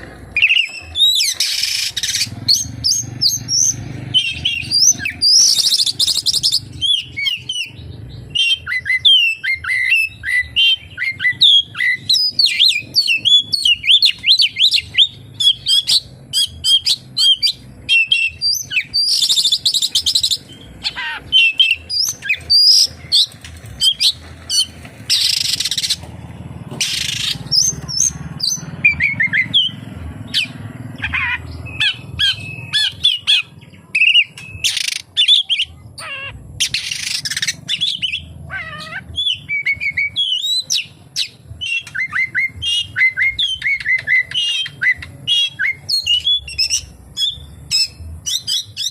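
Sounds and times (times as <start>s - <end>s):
harsh rasping bird notes: 0.0s - 48.9s
songbird singing varied chirps: 0.0s - 48.9s.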